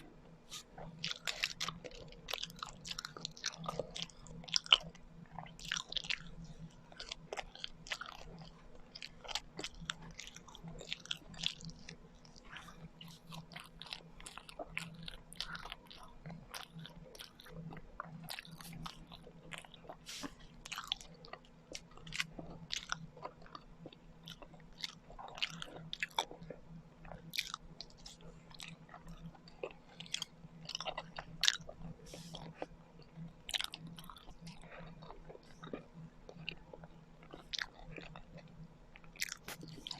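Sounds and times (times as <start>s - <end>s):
chewing and biting: 0.0s - 39.9s
steady low hum: 0.0s - 39.9s
mouth clicks and smacks: 0.5s - 39.9s.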